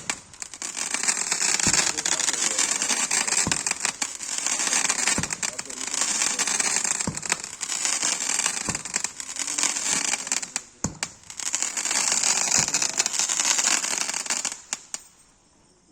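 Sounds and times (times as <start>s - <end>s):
firework crackling: 0.0s - 15.2s
firework pops: 0.0s - 15.2s.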